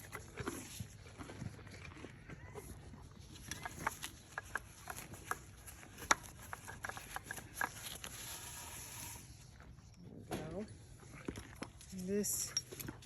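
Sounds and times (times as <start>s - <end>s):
donkey crunching carrots: 0.0s - 13.0s.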